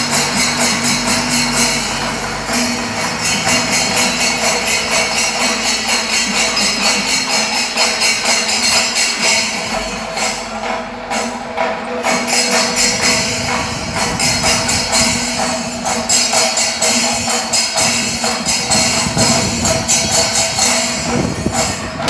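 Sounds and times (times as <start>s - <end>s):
metallic cymbal clashes: 0.0s - 22.0s.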